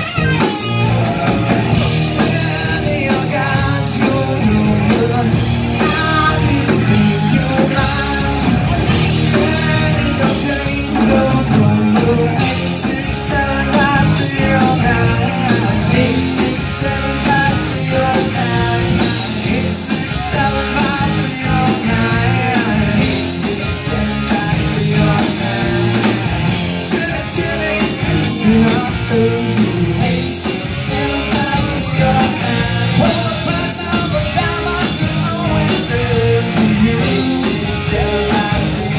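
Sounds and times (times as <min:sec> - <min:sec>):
bass guitar: 0:00.0 - 0:38.9
drums: 0:00.0 - 0:38.9
electric guitars: 0:00.0 - 0:38.9
person singing: 0:00.7 - 0:26.2, 0:26.8 - 0:38.9.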